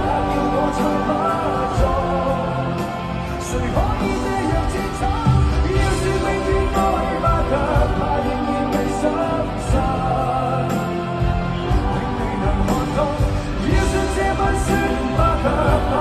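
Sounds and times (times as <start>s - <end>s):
live band playing: 0.0s - 16.0s
man singing into a microphone: 0.0s - 16.0s.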